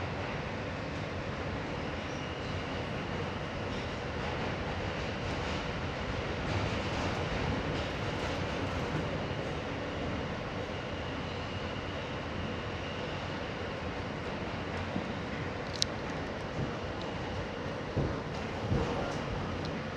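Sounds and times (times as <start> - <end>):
subway train running: 0.0 - 19.9.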